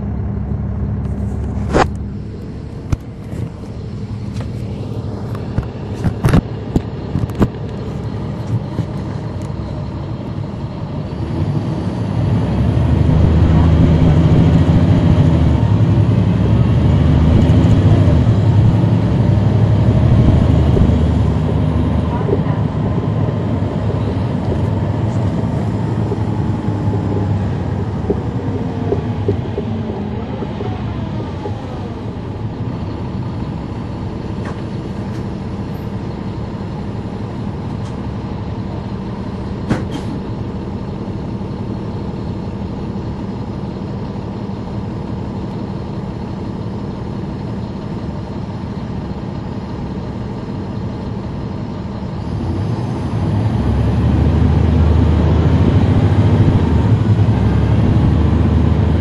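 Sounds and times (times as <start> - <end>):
bus transmission whines: 0.0 - 59.0
diesel engine idling: 0.0 - 59.0.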